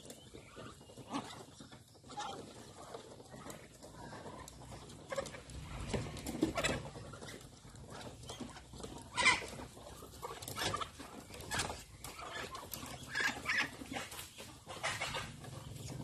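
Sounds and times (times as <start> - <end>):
small bird calls: 0.0 - 16.0.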